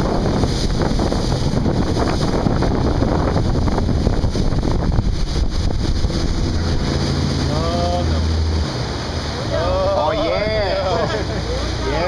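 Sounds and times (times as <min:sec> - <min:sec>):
wind buffeting microphone: 0:00.0 - 0:10.4
boat engine: 0:00.0 - 0:12.0
rushing water: 0:00.0 - 0:12.0.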